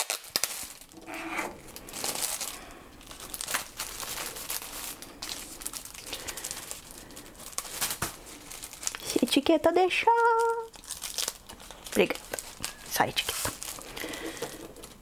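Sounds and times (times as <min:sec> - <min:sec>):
plastic and paper crinkling: 0:00.0 - 0:15.0.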